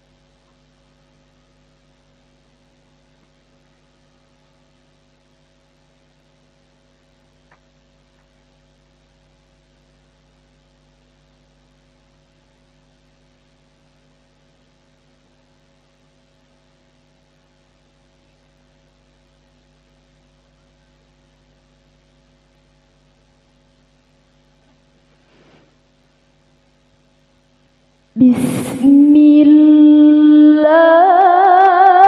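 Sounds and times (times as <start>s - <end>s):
faint electrical hum with hiss: 0.0s - 32.0s.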